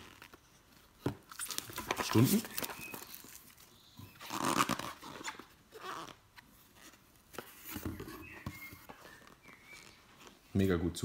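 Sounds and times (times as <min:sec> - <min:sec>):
packaging rustling and scraping: 0:00.0 - 0:10.4.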